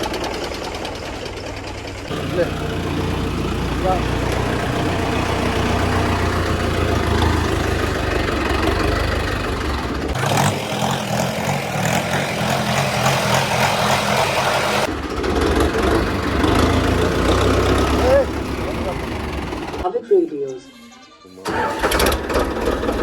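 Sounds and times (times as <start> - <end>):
tractor diesel engine rumbling: 0.0 - 20.5, 21.4 - 23.0.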